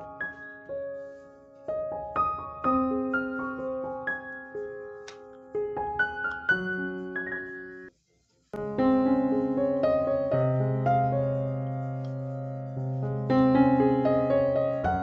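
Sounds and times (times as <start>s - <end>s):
piano music: 0.0s - 8.0s, 8.6s - 15.0s.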